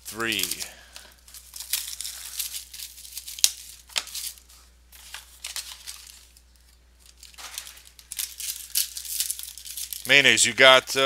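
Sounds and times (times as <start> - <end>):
packaging crinkling and tearing: 0.0 - 10.2.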